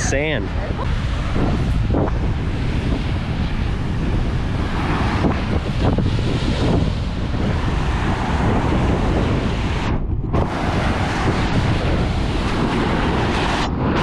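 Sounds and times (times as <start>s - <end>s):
ocean surf: 0.0s - 14.0s
wind buffeting microphone: 0.0s - 14.0s.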